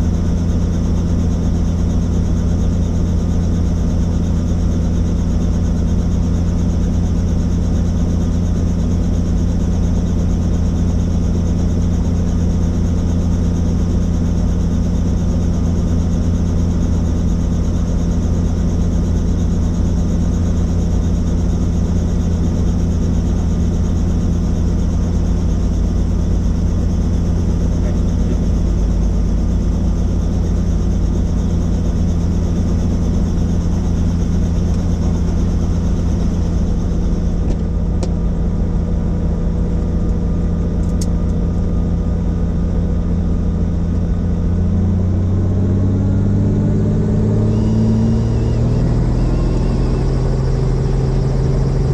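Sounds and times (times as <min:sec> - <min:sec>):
helicopter rotor and engine drone: 0:00.0 - 0:51.9.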